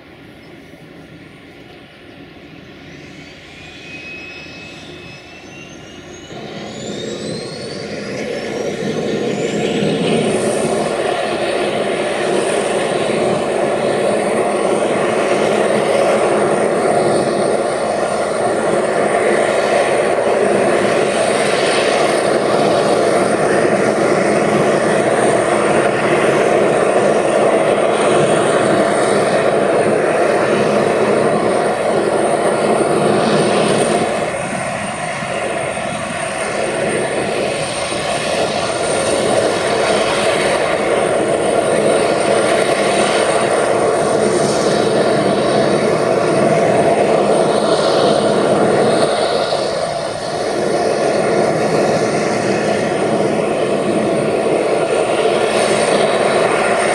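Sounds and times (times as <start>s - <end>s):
turbine engine whine: 0.0s - 56.9s.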